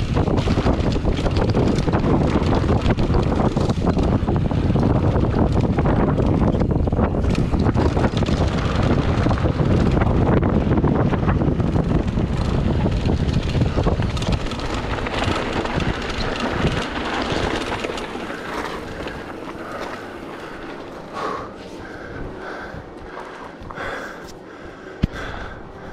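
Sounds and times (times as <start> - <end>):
bike tyres rolling on dirt: 0.0 - 25.9
wind rushing over microphone: 0.0 - 25.9.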